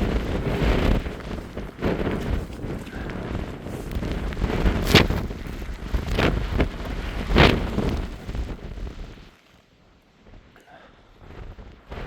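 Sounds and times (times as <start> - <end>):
storm wind gusting: 0.0 - 9.3, 10.2 - 12.0.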